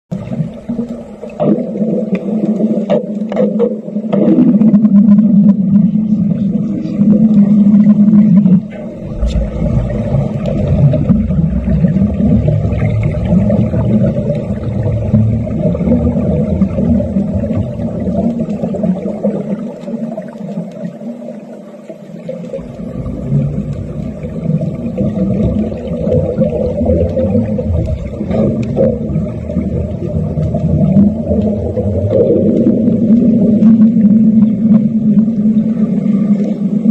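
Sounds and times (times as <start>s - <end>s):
underwater welding buzzing: 0.1s - 36.9s.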